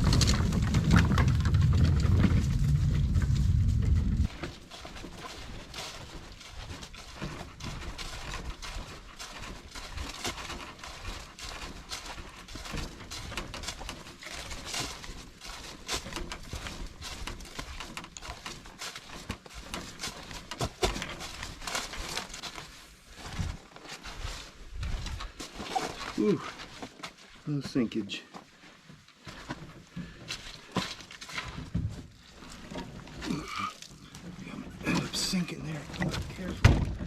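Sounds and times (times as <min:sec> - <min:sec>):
footsteps on wet trail: 0:00.0 - 0:37.0.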